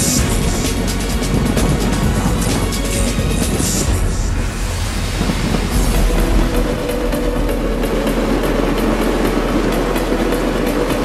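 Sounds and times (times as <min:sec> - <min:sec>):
fireworks crackling and banging: 0:00.0 - 0:11.0
loud music: 0:00.0 - 0:11.0.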